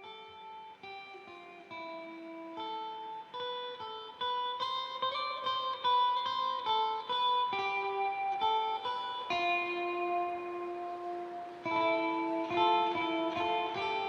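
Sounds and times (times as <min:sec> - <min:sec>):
guitar picking a melody: 0:00.0 - 0:14.0
instrumental funk music: 0:00.0 - 0:14.0.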